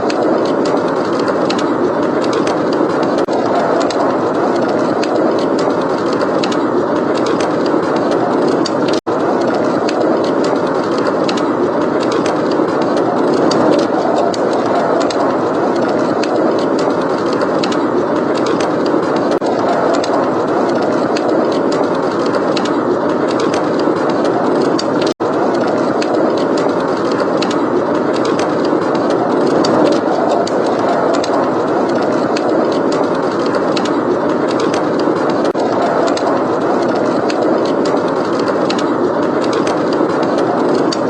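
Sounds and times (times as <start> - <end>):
blizzard wind blowing: 0.0 - 41.0
wood fire crackling: 0.0 - 41.0.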